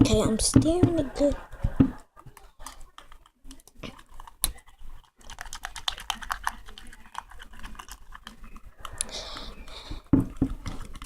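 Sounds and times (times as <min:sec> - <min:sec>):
utensil stirring sticky slime: 0:00.0 - 0:11.0.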